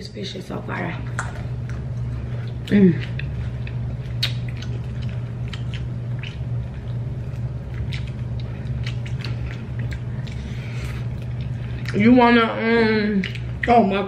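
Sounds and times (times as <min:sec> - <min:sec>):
low hum: 0:00.0 - 0:14.0
chewing and lip smacking: 0:01.0 - 0:12.2, 0:13.0 - 0:13.8.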